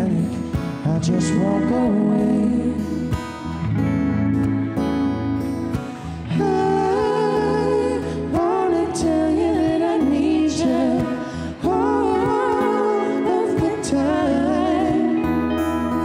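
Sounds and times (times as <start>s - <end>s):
man and woman singing harmony: 0.0s - 3.1s, 6.2s - 16.0s
strummed acoustic guitar: 0.0s - 10.0s, 10.6s - 16.0s
electric guitar: 0.0s - 16.0s.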